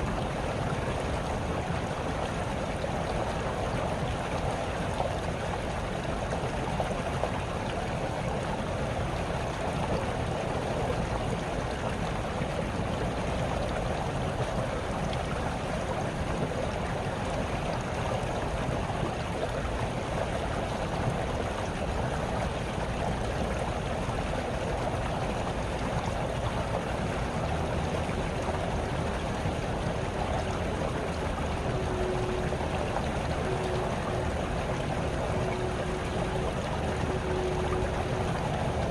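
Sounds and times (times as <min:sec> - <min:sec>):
brook trickling and babbling: 0:00.0 - 0:38.9.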